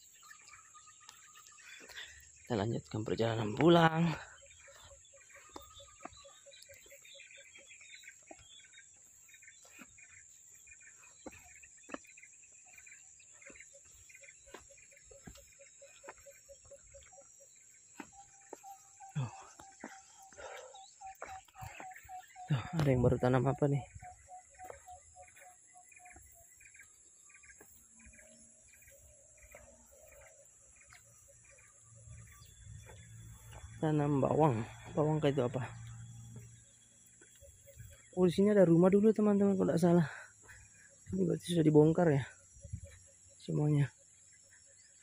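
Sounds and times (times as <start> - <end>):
soft footsteps on ground: 0.0 - 41.5
birds chirping: 0.0 - 45.0.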